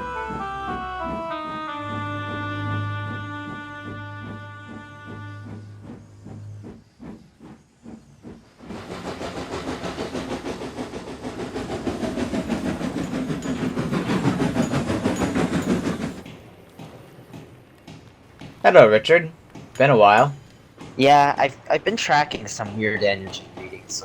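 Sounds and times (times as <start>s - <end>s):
steam hissing: 0.0s - 24.0s
steam locomotive chuffing: 0.0s - 24.0s.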